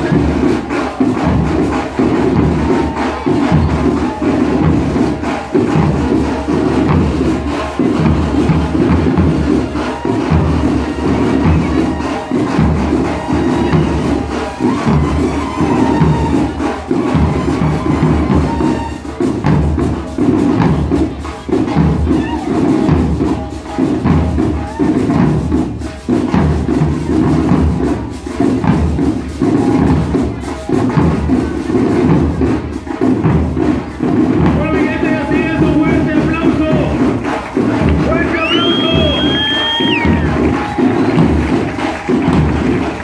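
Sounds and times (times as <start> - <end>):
drums beating steady rhythm: 0.0 - 43.0
marching band playing: 0.0 - 43.0.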